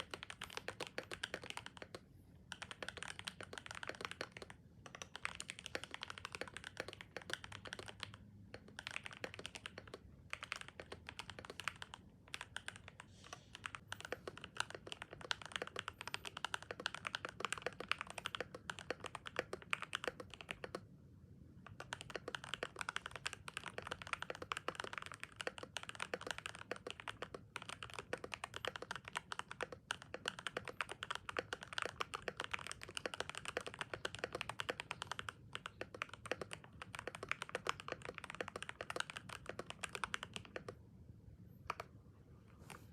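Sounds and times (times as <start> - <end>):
fast typing on mechanical keyboard: 0.0 - 40.8, 41.6 - 41.9.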